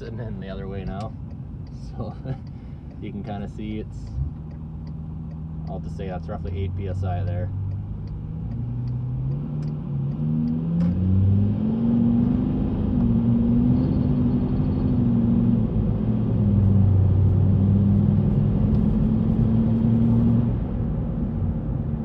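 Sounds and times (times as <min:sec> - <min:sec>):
diesel engine accelerating: 0:03.0 - 0:22.0.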